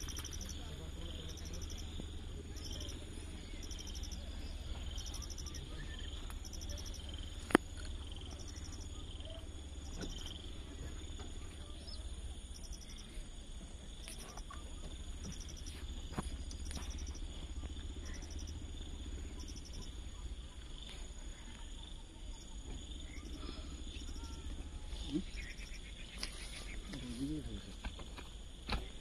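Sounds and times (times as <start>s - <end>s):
insects chirping in pulsed bursts: 0.0s - 29.0s
steady low rumble: 0.0s - 29.0s.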